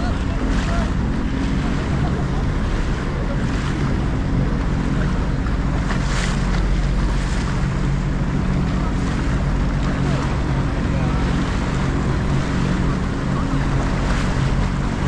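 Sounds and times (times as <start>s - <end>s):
jet ski engine idling: 0.0s - 15.0s
water washing around hull: 0.0s - 15.0s.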